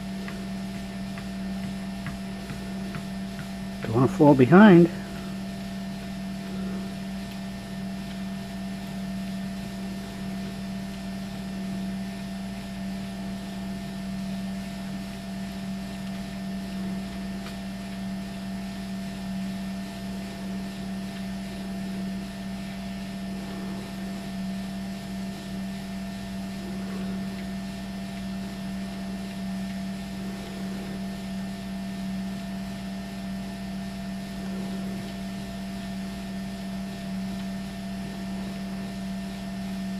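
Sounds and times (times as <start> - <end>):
treadmill belt whirring: 0.0 - 39.9
treadmill motor hum: 0.0 - 39.9.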